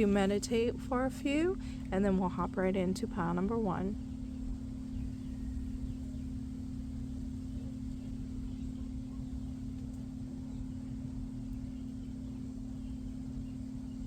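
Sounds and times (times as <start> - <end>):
low rumbling background noise: 0.0 - 14.0
steady low hum: 0.0 - 14.0.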